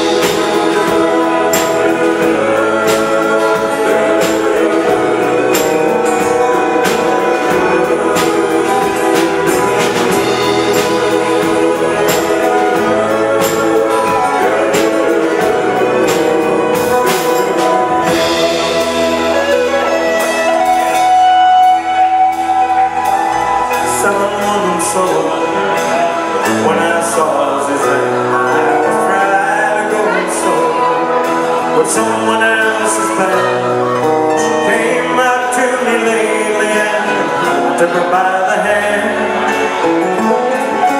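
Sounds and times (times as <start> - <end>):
live pop band playing: 0.0 - 40.9
men singing: 0.0 - 40.9.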